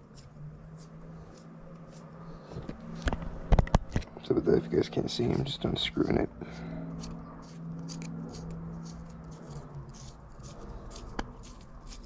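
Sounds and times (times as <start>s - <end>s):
light scratching: 0.0s - 12.0s
steady low hum: 0.0s - 12.0s.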